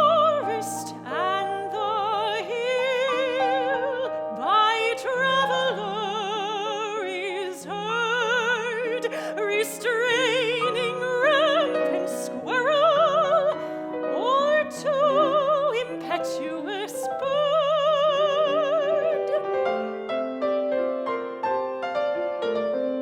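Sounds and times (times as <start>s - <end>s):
soprano singing operatic style: 0.0s - 20.4s
piano accompaniment: 0.0s - 23.0s.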